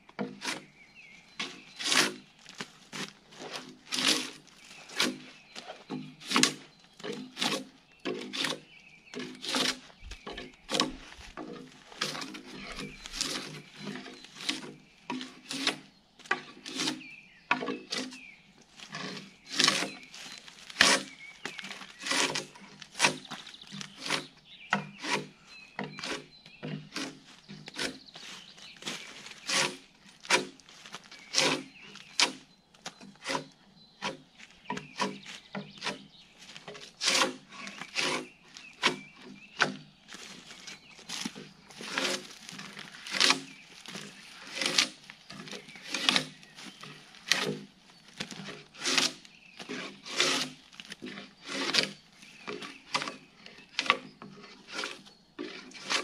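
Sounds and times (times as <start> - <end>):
drawknife scraping bark off log: 0.2 - 0.7, 1.4 - 56.0.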